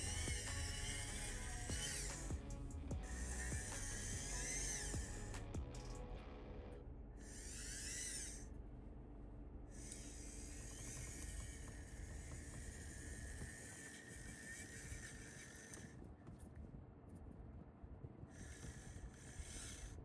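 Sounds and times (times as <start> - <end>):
small electric motor whining: 0.0 - 8.8, 9.7 - 16.6, 18.3 - 20.0.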